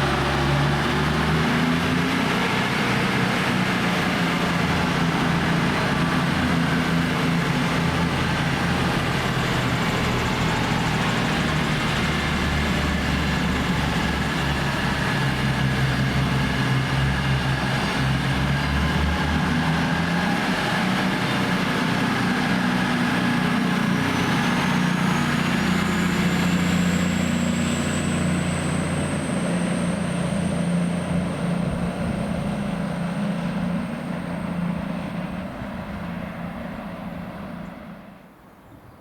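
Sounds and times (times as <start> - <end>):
train engine drone: 0.0 - 38.5.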